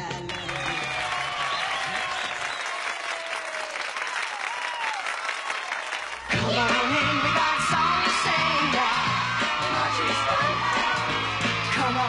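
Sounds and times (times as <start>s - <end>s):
audience cheering: 0.0s - 12.0s
audience clapping: 0.0s - 12.0s.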